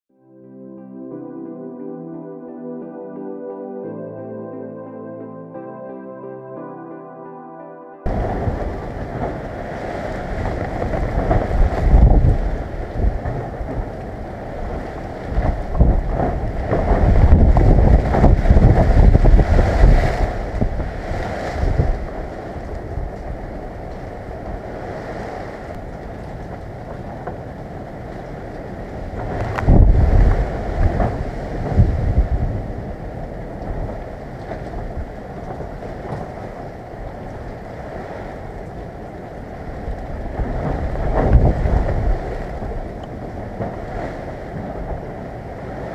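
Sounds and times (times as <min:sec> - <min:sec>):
wind buffeting microphone: 0:08.0 - 0:45.9
wind rushing through leaves: 0:08.1 - 0:45.9.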